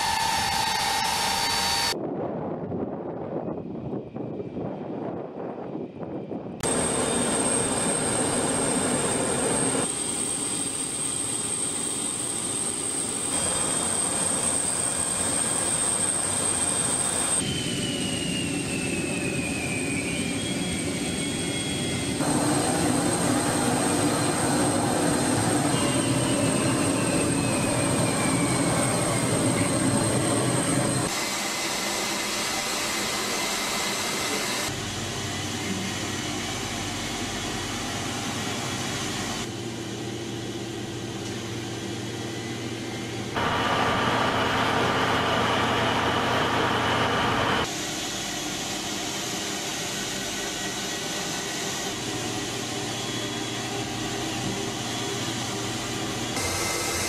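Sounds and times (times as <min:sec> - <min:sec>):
jet aircraft engine: 0:00.0 - 0:57.0.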